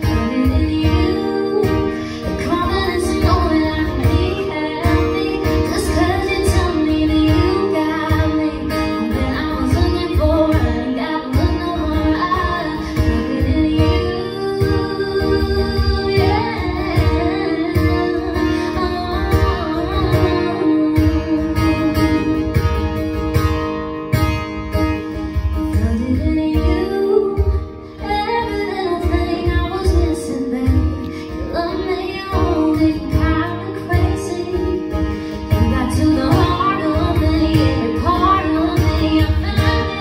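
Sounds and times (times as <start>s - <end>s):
woman singing: 0.0s - 23.4s, 25.0s - 40.0s
acoustic guitar strumming: 0.0s - 40.0s.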